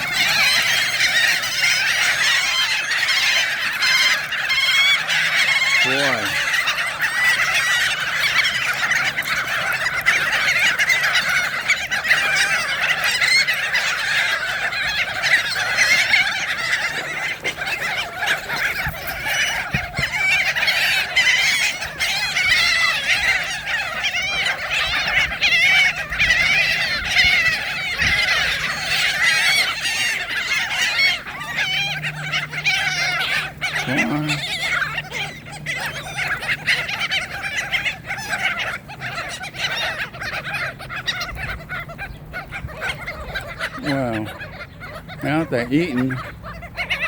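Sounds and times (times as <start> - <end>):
seagulls squawking: 0.0 - 47.0.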